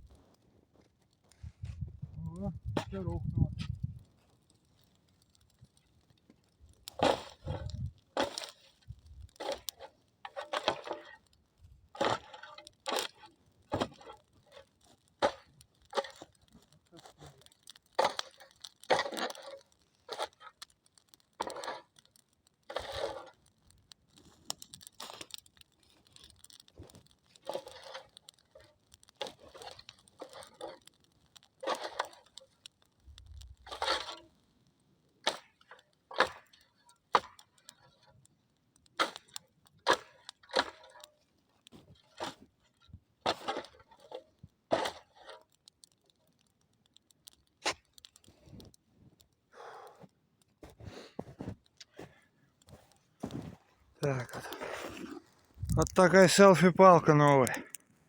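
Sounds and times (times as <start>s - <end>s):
dry branches cracking: 0.0s - 34.4s, 35.2s - 49.4s, 51.6s - 57.9s.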